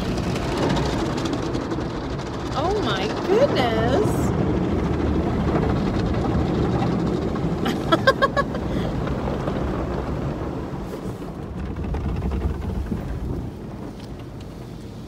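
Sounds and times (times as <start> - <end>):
car wash rumble: 0.0 - 15.0
water spraying on car: 0.0 - 15.0.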